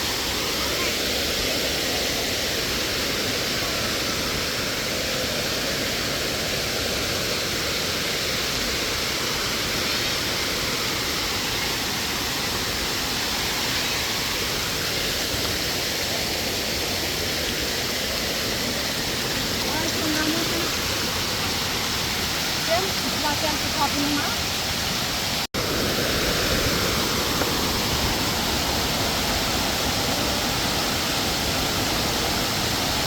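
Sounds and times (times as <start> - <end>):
large waterfall rushing: 0.0 - 33.0.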